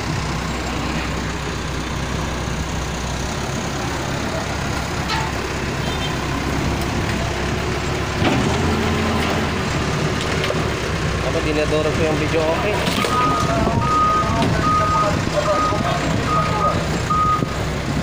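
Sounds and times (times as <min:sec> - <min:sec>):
loader diesel engine running: 0:00.0 - 0:18.0.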